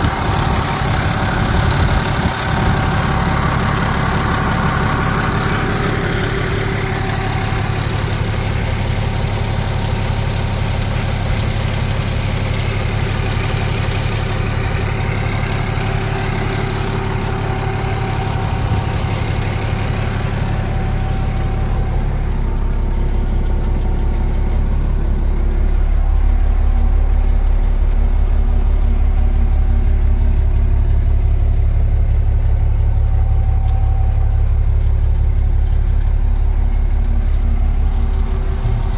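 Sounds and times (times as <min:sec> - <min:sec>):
diesel tractor engine idling: 0:00.0 - 0:38.9.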